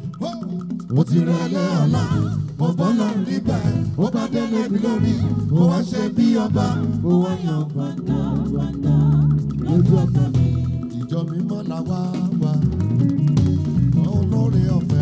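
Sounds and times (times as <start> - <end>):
band with steady bass line: 0.0 - 15.0
person singing gospel: 0.0 - 15.0.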